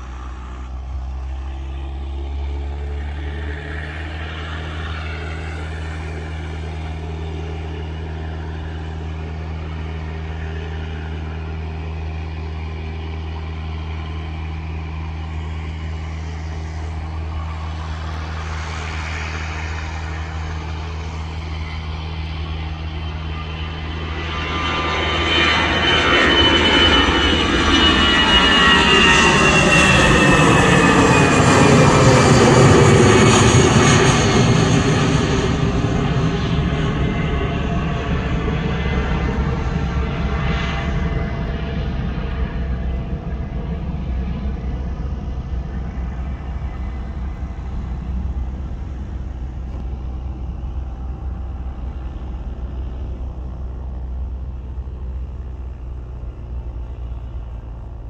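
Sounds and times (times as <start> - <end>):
jet airliner engines roaring: 0.0 - 58.0
whining tones sliding down: 0.0 - 58.0.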